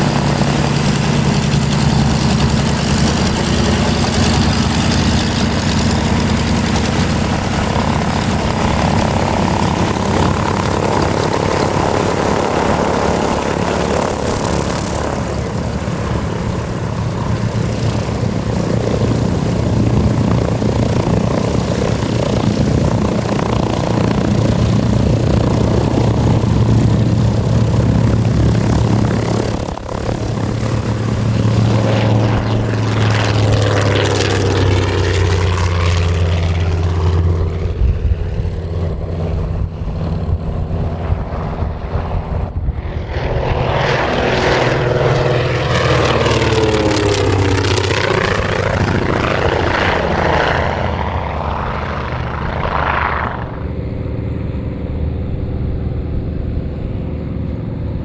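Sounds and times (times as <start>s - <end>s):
propeller plane engine passing: 0.0s - 58.0s.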